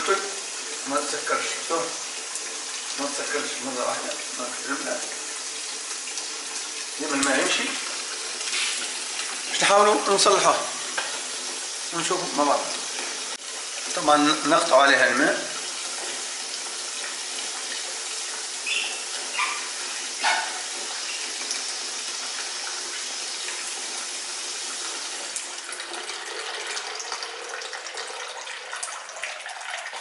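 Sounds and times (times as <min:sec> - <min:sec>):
water running from tap: 0:00.0 - 0:30.0.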